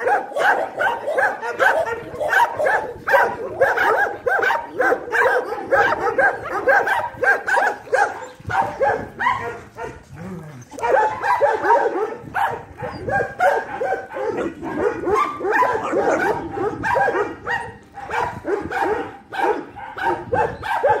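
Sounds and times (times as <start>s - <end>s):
dogs barking and yipping: 0.0s - 21.0s.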